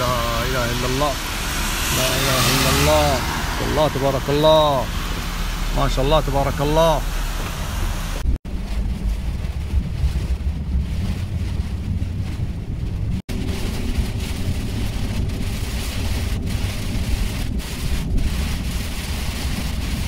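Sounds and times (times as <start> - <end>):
car engine and tyres on wet road: 0.0 - 20.0
hiss of rain and spray: 0.0 - 20.0
wind buffeting microphone: 0.0 - 20.0.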